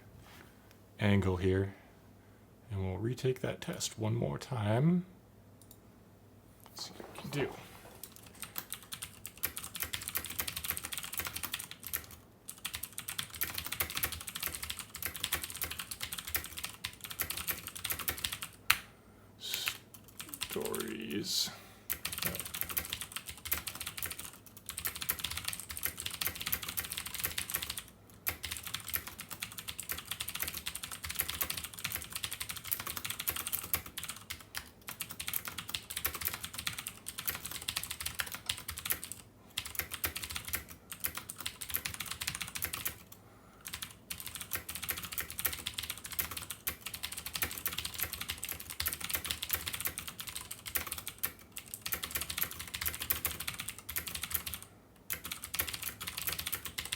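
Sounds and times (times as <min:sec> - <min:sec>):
fast typing on keyboard: 0:08.0 - 0:18.8, 0:19.6 - 0:21.0, 0:21.9 - 0:56.9.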